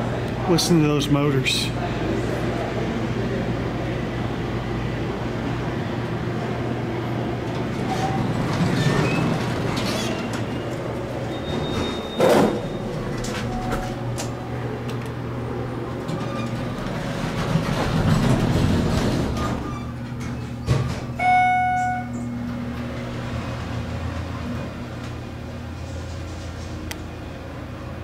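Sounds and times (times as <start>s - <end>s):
steady hum of motors: 0.0s - 28.0s
elevator doors sliding open: 5.0s - 27.8s.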